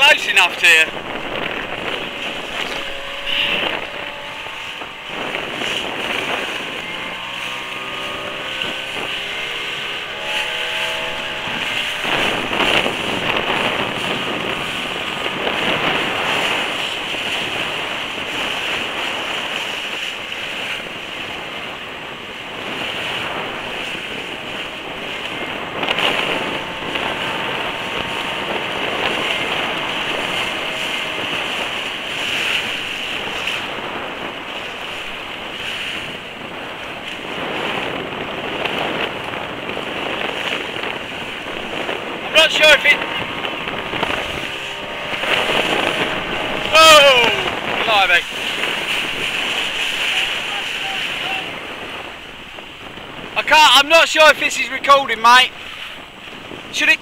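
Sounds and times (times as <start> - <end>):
sea waves washing: 0.0 - 57.0
wind buffeting microphone: 0.0 - 57.0.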